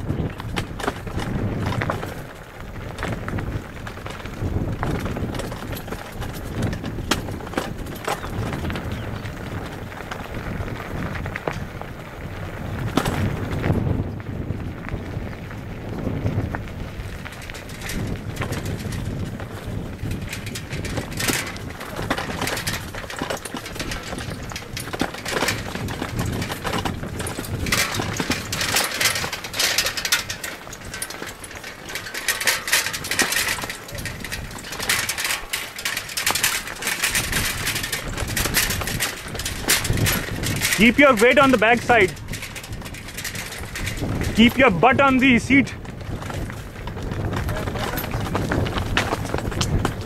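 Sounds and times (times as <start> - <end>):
constant rumble: 0.0 - 50.0
tyres crunching over gravel: 0.0 - 50.0
bike metallic clicks and knocks: 0.1 - 15.6, 16.4 - 50.0.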